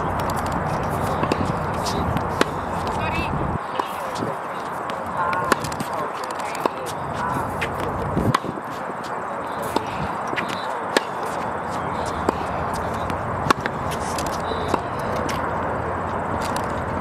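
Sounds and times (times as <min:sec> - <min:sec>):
tennis balls struck by racquets: 0:00.0 - 0:17.0.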